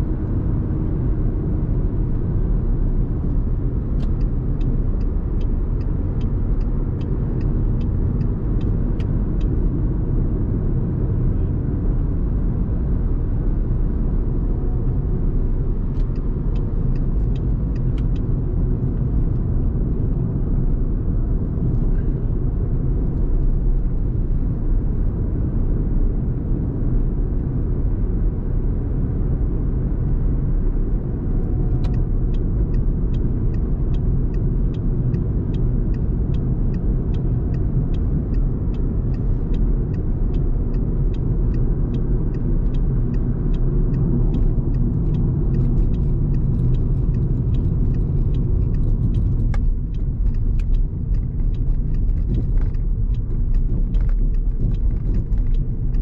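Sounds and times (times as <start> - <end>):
road and tyre rumble in car: 0.0 - 56.0
turn indicator clicking: 2.6 - 12.5, 13.3 - 24.6, 29.6 - 56.0.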